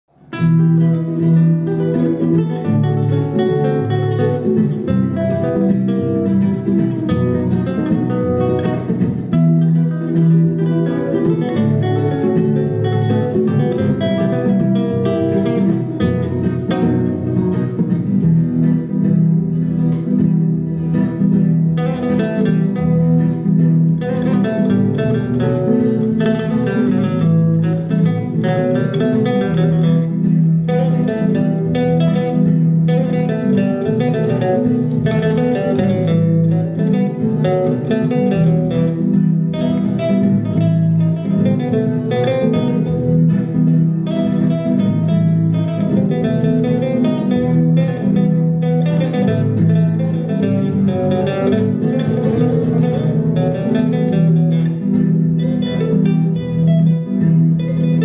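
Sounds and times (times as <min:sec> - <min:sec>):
amplified acoustic guitar: 0:00.0 - 0:58.0
nylon-string classical guitar: 0:00.1 - 0:58.0.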